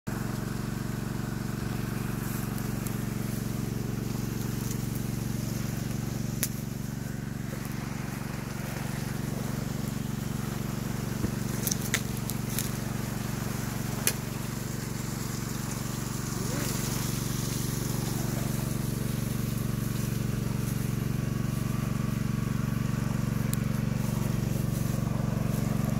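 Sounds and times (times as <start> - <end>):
small engine running: 0.1 - 25.9.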